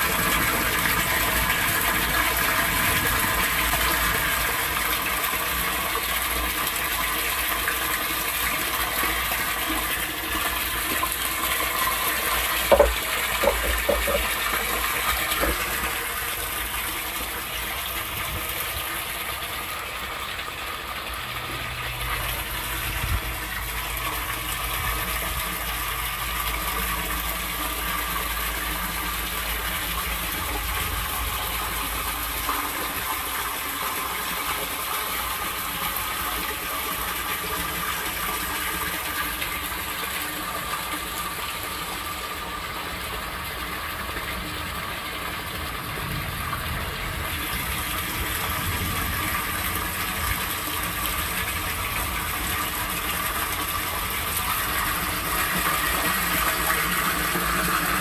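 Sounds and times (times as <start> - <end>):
torrential rain: 0.0 - 58.0
water pouring and splashing: 0.0 - 58.0.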